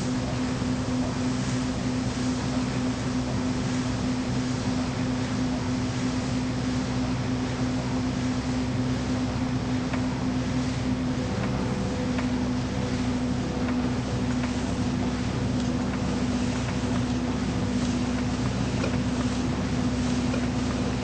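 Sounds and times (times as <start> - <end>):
low droning hum: 0.0 - 21.0.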